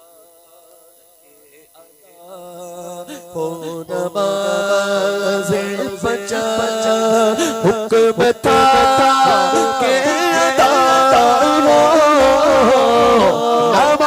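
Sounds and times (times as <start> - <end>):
man singing into microphone: 1.6 - 14.0.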